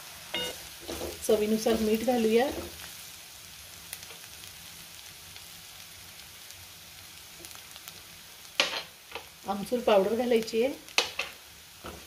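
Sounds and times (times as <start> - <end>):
mixture sizzling in a pan: 0.0 - 12.0.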